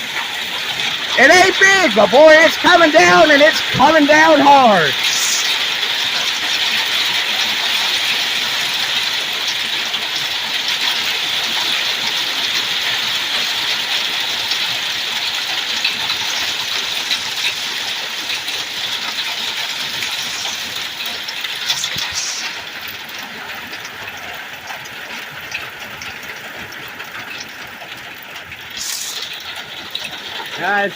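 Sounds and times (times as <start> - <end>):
hail hitting: 0.0 - 30.9.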